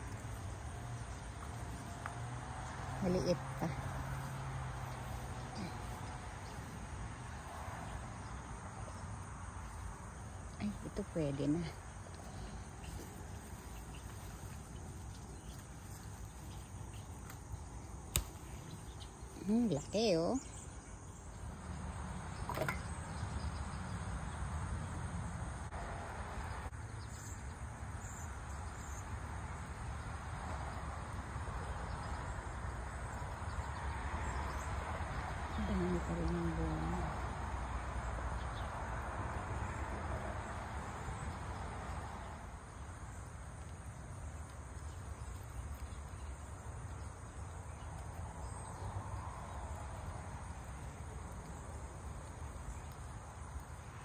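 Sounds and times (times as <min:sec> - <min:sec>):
crickets chirping: 0:00.0 - 0:54.0
outdoor rumble and hiss: 0:00.0 - 0:54.0.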